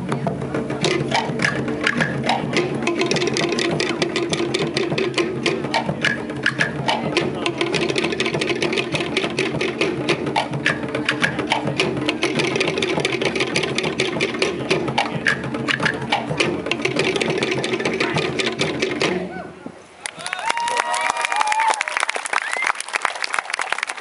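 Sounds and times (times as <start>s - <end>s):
fast drum ensemble: 0.0s - 19.6s.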